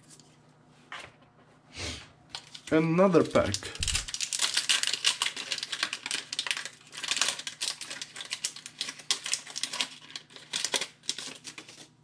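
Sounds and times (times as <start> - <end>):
foil wrapper crinkling: 2.3 - 12.0.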